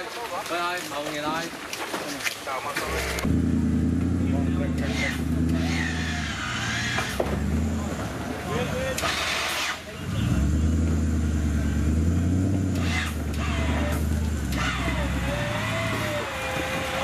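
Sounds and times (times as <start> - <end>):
engine revving under load: 2.8 - 17.0.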